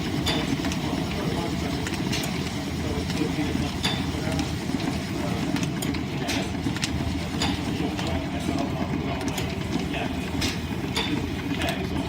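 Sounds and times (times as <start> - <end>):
wood lathe shafting rumbling: 0.0 - 12.0.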